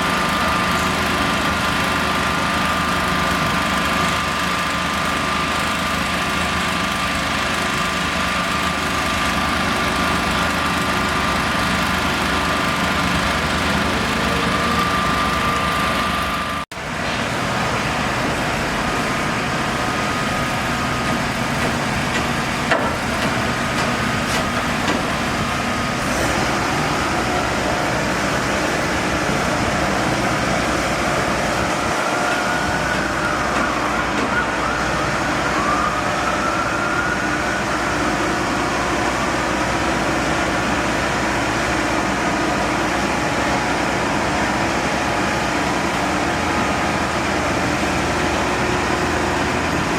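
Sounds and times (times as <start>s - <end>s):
constant whine: 0.0s - 49.9s
emergency vehicle siren: 0.0s - 49.9s
engine and traffic noise: 0.0s - 49.9s.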